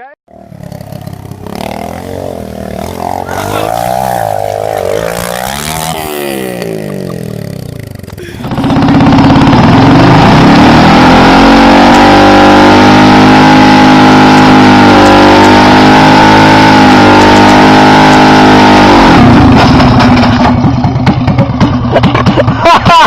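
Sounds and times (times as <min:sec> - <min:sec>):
dirt bike engine revving: 0:00.3 - 0:21.9
uneven engine clatter: 0:00.3 - 0:23.0.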